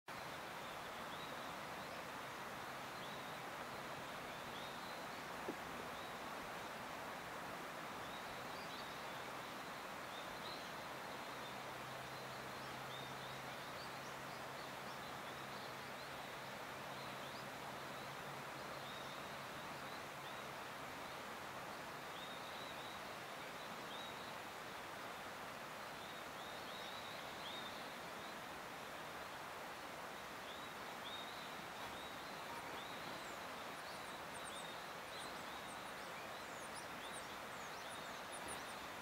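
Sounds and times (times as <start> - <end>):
steady hiss: 0.1 - 39.0.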